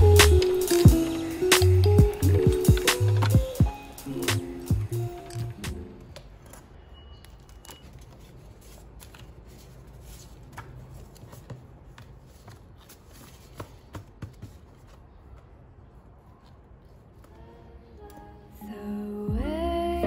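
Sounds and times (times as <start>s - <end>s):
paper sheets rustling: 0.0s - 6.7s, 7.3s - 17.4s.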